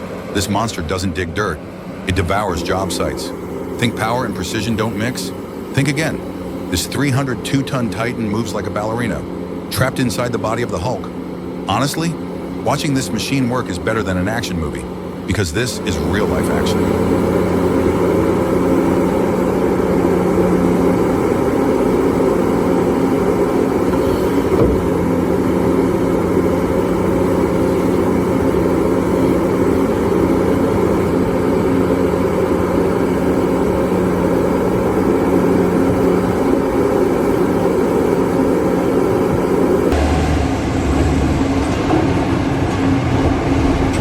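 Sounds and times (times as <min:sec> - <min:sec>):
heavy diesel engine drone: 0:00.0 - 0:44.0.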